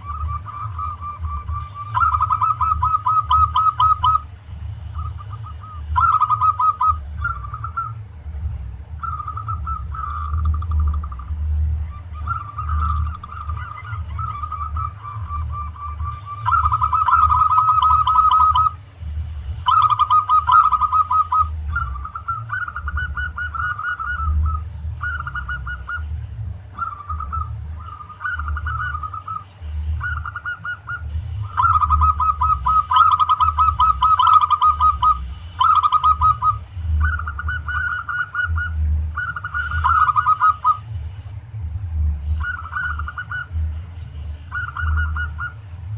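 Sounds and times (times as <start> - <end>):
doves cooing: 0.0 - 45.9
low rumble: 0.0 - 45.9.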